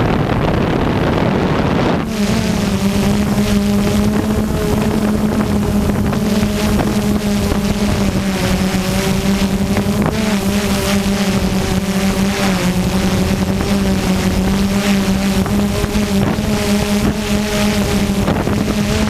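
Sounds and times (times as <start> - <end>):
drone propellers humming: 0.0 - 19.0
wind noise on microphone: 0.0 - 19.0.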